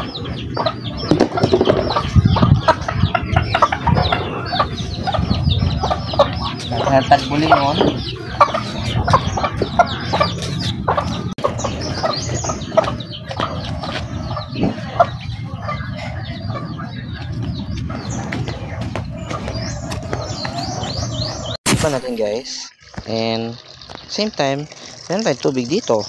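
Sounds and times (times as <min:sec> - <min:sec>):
chickens clucking: 0:00.0 - 0:21.6.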